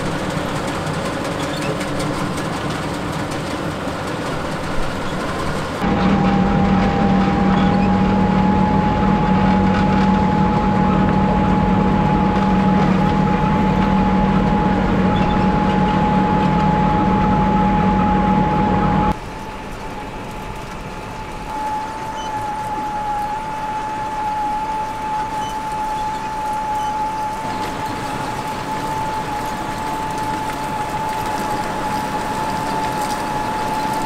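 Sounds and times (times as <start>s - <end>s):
harvester machinery noise: 0.0s - 34.0s
hum inside tractor cab: 0.0s - 34.0s.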